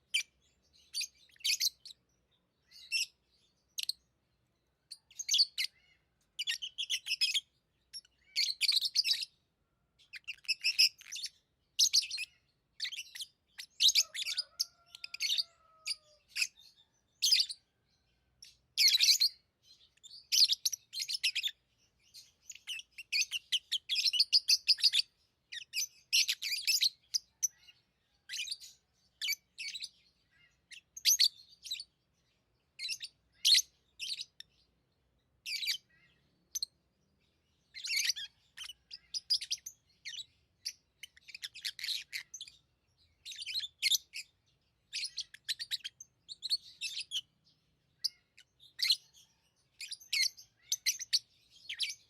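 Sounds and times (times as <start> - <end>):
lovebirds chirping: 0.0 - 52.0.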